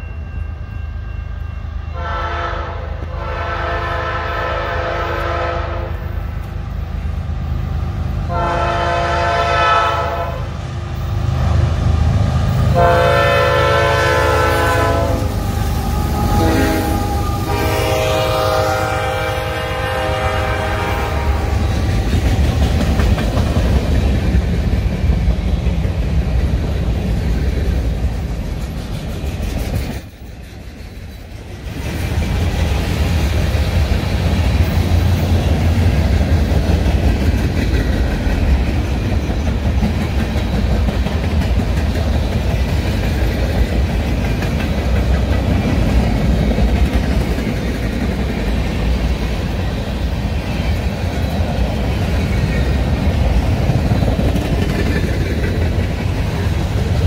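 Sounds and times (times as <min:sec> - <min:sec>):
freight train wheels rolling on rails: 0:00.0 - 0:57.0.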